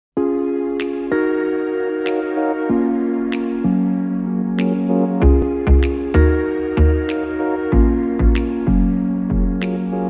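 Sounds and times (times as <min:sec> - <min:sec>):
synthesizer chords: 0:00.2 - 0:10.0.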